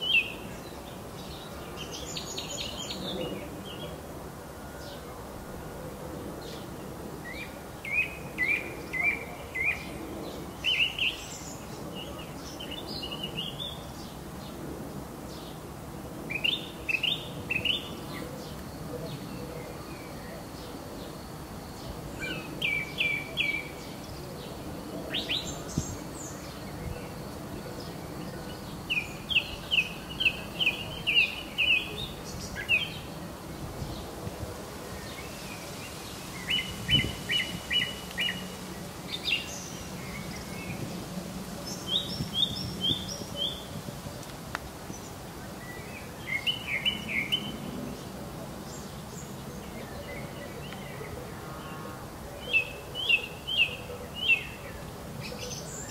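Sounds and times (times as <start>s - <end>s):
outdoor background hiss: 0.0s - 55.9s
songbirds singing: 0.0s - 55.9s.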